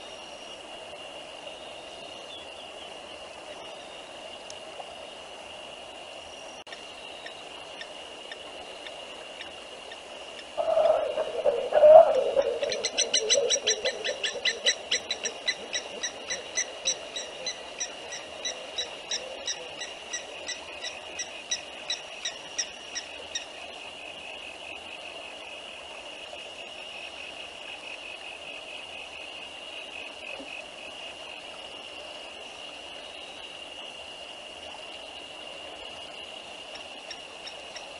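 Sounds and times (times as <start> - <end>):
high-pitched insect chorus: 0.0 - 37.9.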